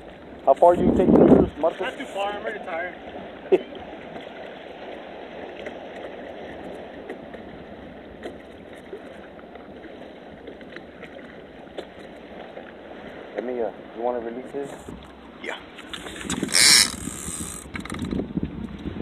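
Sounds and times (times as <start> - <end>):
steady wash of water: 0.0 - 19.0.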